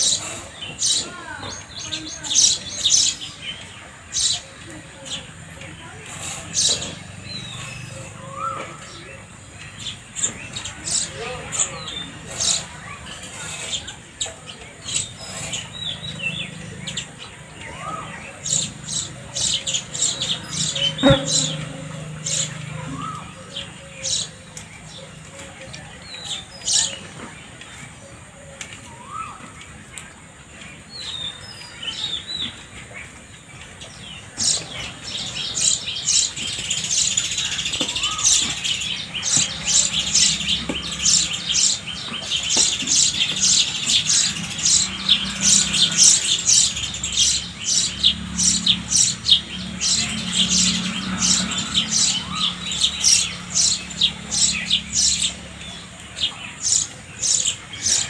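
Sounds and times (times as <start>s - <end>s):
sparrows chirping: 0.0s - 58.0s.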